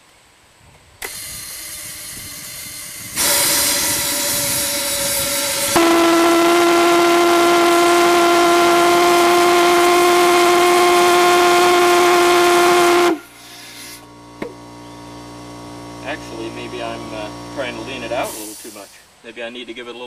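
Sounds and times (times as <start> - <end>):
pulsejet engine buzzing drone: 1.1 - 18.2.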